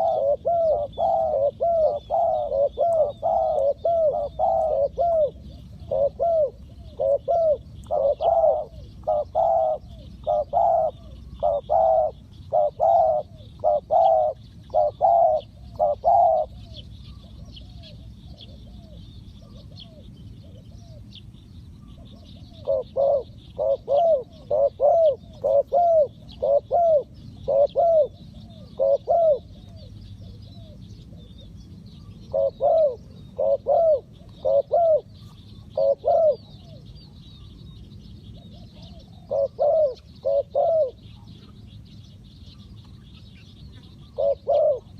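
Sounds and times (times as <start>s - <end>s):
doves cooing: 0.0s - 37.6s, 38.2s - 44.9s.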